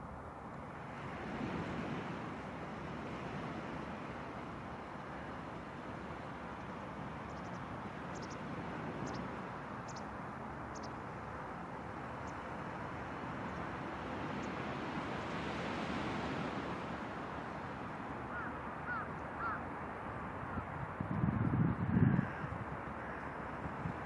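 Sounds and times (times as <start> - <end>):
ocean surf on beach: 0.0 - 21.4, 22.4 - 24.0.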